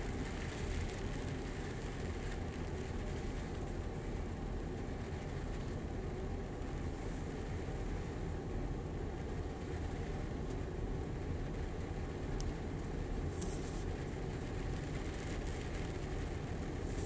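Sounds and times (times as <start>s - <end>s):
faint rain hiss: 0.0s - 17.0s.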